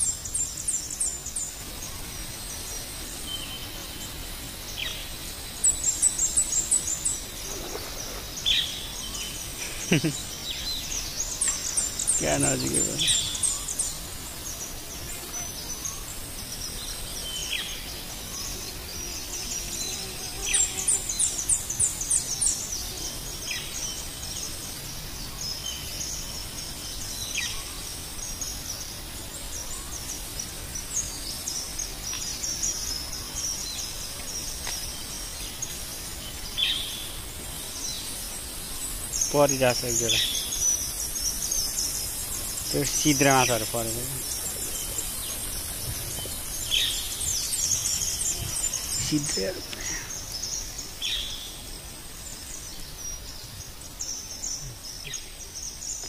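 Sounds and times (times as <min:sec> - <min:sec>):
background hiss: 0:00.0 - 0:56.0
birds chirping: 0:00.0 - 0:56.0
insects calling: 0:00.0 - 0:56.0.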